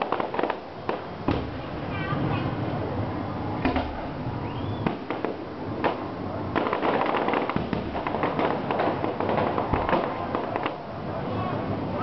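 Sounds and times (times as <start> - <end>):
fireworks bangs: 0.0 - 2.7, 3.6 - 12.0
fireworks crackling: 0.0 - 12.0.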